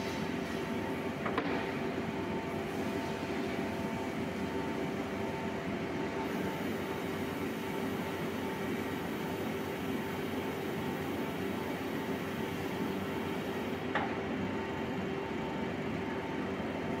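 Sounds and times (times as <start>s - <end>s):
motor and hydraulic pump hum: 0.0s - 17.0s.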